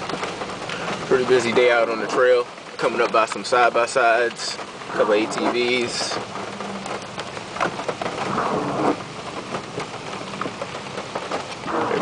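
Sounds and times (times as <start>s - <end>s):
tyres crackling on dirt trail: 0.0s - 12.0s.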